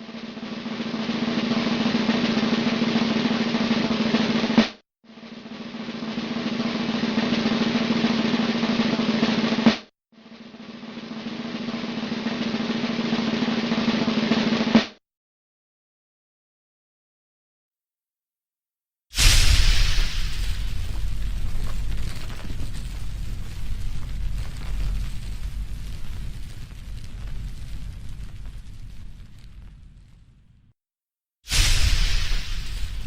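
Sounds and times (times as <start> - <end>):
snare drum roll: 0.0 - 15.0, 19.2 - 29.8, 31.5 - 33.0.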